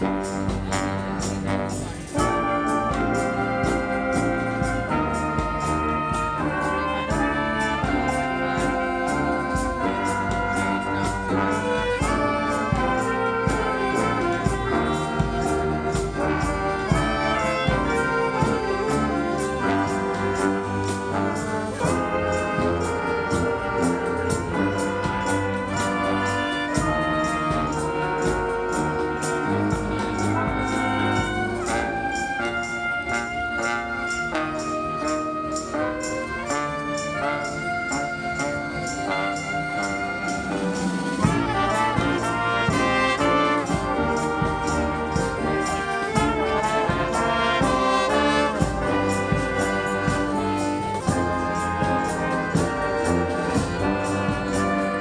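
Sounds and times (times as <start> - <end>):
brass marching band playing: 0.0 - 55.0
steady drum beat: 0.0 - 55.0.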